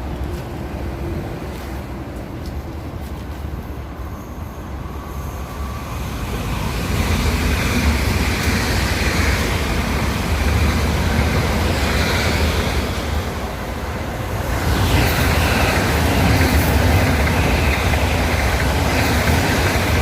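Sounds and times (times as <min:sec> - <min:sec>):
train rumble and wheel noise: 0:00.0 - 0:20.0.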